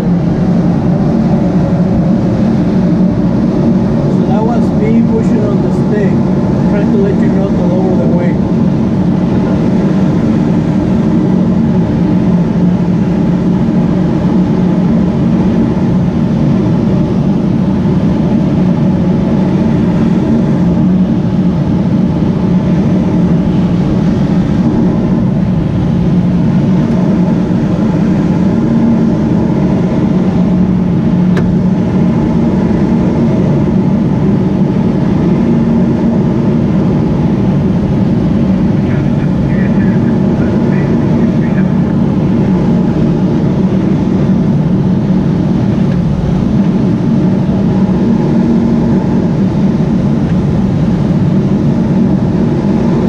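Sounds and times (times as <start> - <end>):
plane engine and propeller drone: 0.0 - 53.0.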